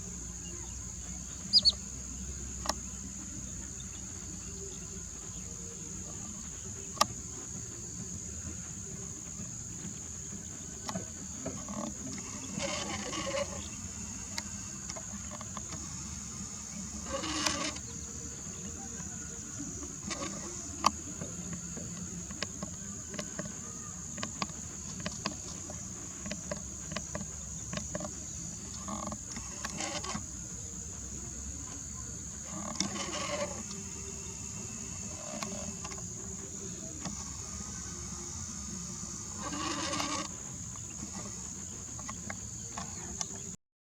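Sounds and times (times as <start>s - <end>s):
insect drone: 0.0s - 43.6s
small clicks: 1.3s - 5.5s, 6.1s - 43.6s.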